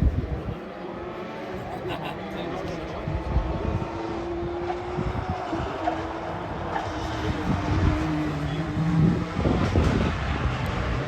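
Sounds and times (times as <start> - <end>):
distant rally car engine: 0.0 - 11.0.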